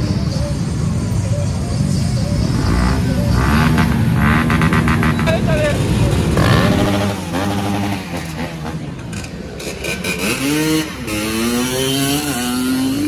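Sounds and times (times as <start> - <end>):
other motorcycle engines running: 0.0 - 13.0
dirt bike engine accelerating: 2.4 - 13.0.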